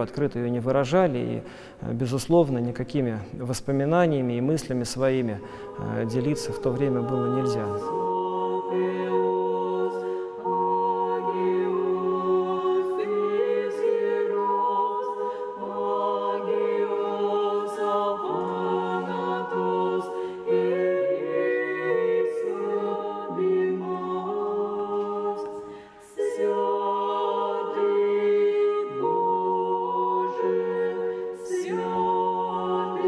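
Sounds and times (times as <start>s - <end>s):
women's choir singing a cappella: 5.0s - 33.0s.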